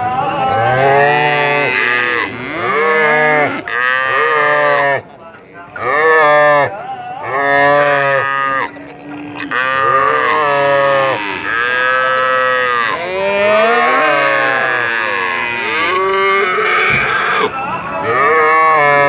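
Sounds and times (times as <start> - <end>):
cattle mooing: 0.5 - 5.1, 5.8 - 19.0.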